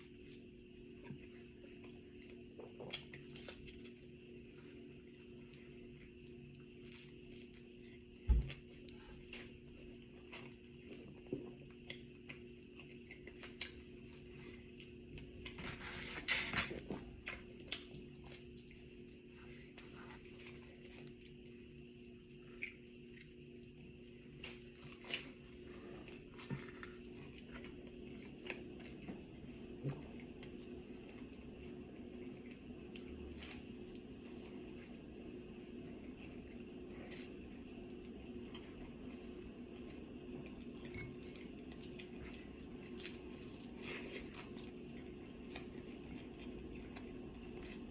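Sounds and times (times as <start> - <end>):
faint steady hum: 0.0 - 47.9
person chewing food: 0.0 - 47.9.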